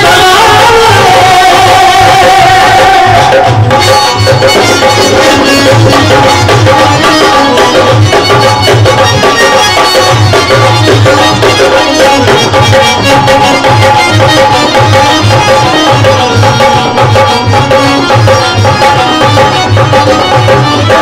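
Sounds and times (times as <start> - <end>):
hand drum beat: 0.0 - 21.0
sustained melody instrument: 0.0 - 21.0.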